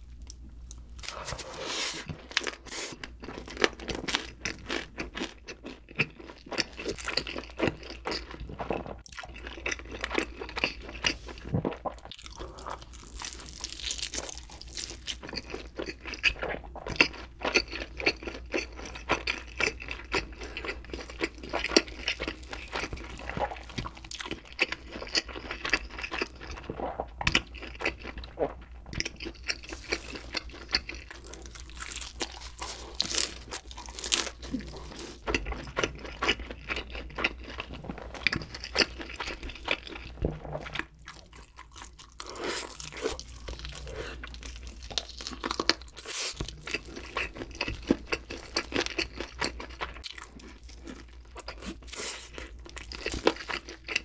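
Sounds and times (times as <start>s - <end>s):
close chewing of pizza: 1.0s - 54.0s.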